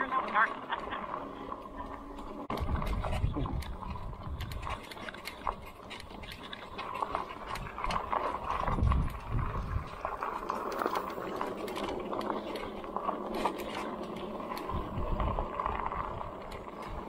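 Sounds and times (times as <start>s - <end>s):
bike tyres rolling on gravel: 0.0s - 17.0s
wind buffeting microphone: 1.0s - 17.0s.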